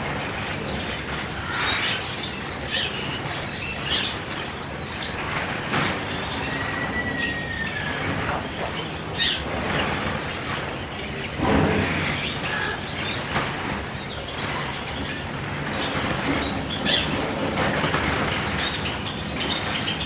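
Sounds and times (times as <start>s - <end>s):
canaries chirping: 0.0s - 20.0s
wings fluttering: 0.0s - 20.0s.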